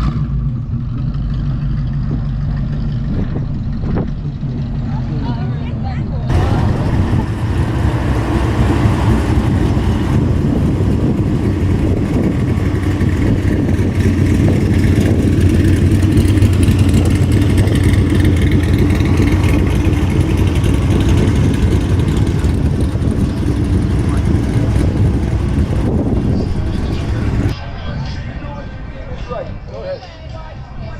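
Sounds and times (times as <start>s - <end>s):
car engine running and revving: 0.0s - 27.6s.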